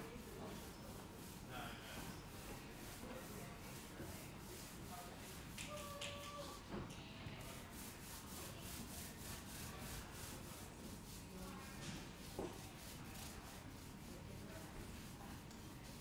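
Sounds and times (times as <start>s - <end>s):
hand tool rubbing on wall: 0.0s - 5.6s, 7.4s - 16.0s.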